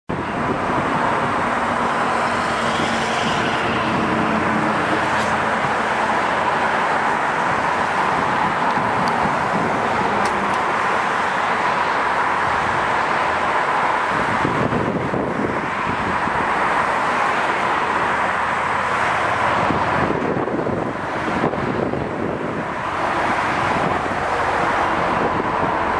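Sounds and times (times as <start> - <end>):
road traffic hiss and hum: 0.1 - 25.9.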